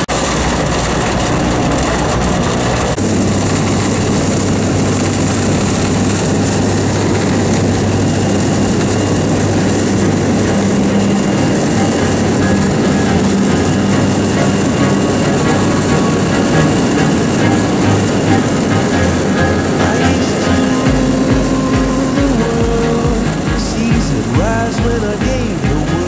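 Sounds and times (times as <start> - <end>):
light aircraft engine drone: 0.0 - 26.0.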